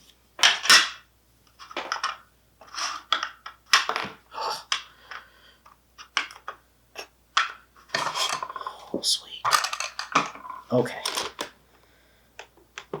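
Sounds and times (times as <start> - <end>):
plastic parts clicking and knocking: 0.4 - 8.7, 9.4 - 11.6, 12.4 - 13.0.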